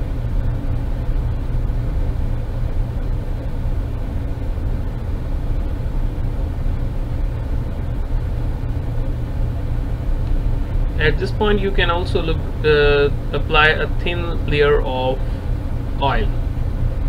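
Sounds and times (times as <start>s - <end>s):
faint steady hum: 0.0s - 17.0s
low machinery drone: 0.0s - 17.0s.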